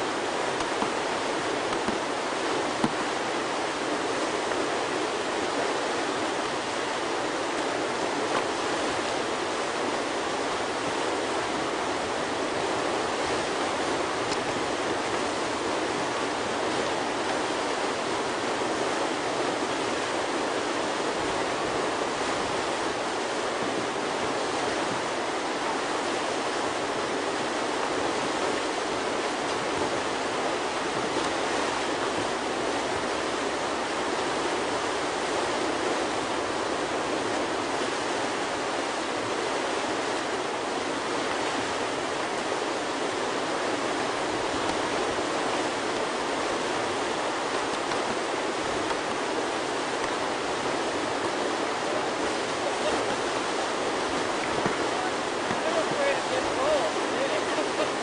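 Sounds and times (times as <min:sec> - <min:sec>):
whitewater rushing: 0:00.0 - 0:58.0.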